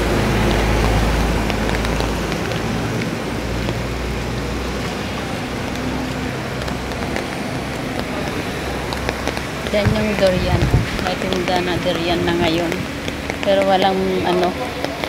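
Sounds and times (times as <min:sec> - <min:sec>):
dripping water ticks: 0:00.0 - 0:15.0
passing vehicle rumble: 0:00.0 - 0:15.0
rain on wet ground: 0:00.0 - 0:15.0.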